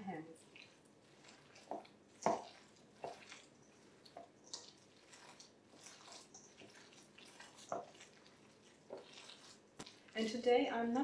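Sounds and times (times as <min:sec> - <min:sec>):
wet squelching of mixing by hand: 0:00.0 - 0:10.8.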